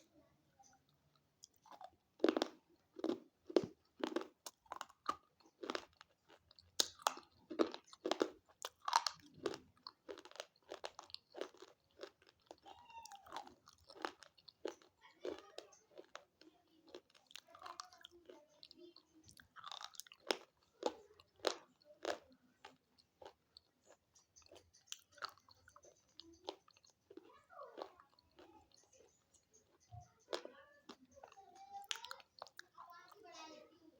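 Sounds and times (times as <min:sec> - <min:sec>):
pencil being chewed crunching: 0:01.4 - 0:32.7.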